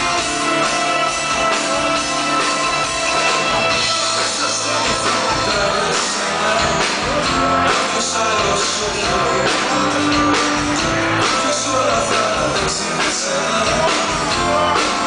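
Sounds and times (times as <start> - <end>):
live band music: 0.0 - 15.0
man singing: 0.0 - 15.0.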